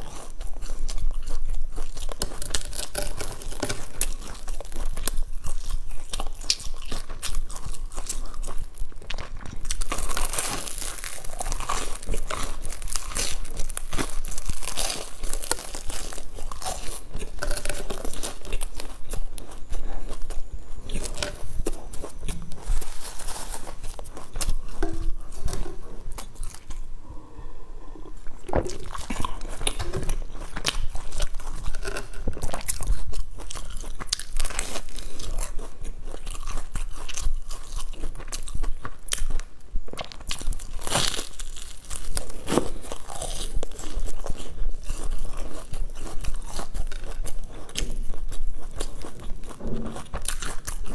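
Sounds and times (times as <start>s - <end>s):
crunching and chewing bread: 0.0s - 50.9s.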